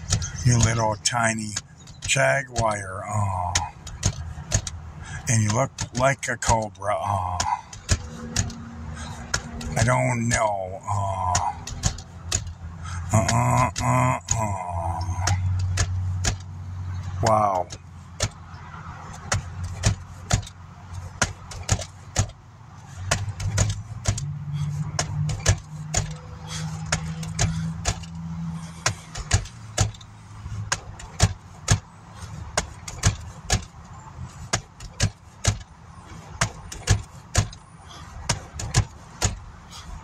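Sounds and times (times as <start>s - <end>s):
sharp irregular clicks: 0.0s - 40.0s
truck hum inside cab: 0.0s - 40.0s.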